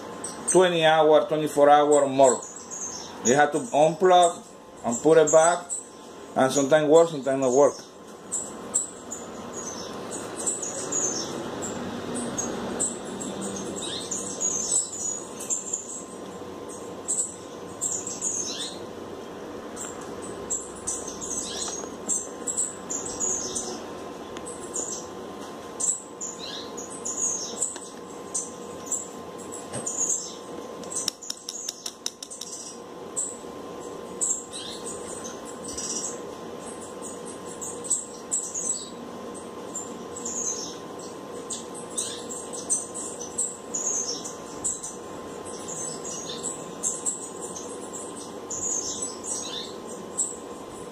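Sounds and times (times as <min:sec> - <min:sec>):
faint steady hum: 0:00.0 - 0:50.9
small birds chirping: 0:00.0 - 0:50.9.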